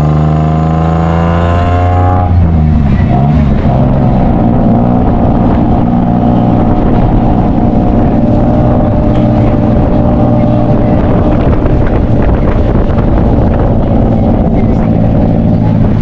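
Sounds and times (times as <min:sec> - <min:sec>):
tuk-tuk engine running: 0:00.0 - 0:16.0.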